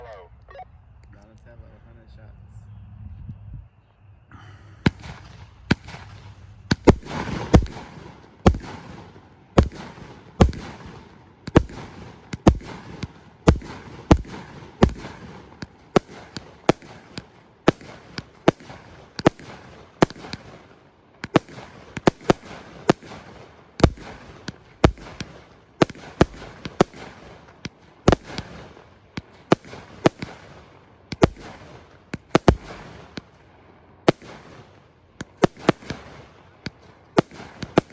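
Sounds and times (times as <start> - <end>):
fireworks bangs: 4.4 - 37.9
firework crackle: 4.8 - 37.9.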